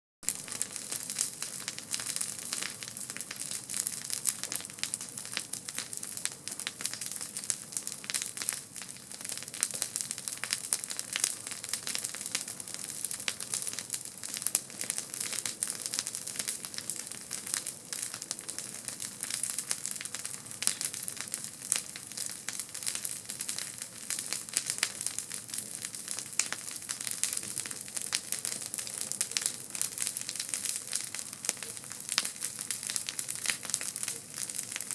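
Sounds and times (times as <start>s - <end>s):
campfire crackling and popping: 0.2s - 34.9s.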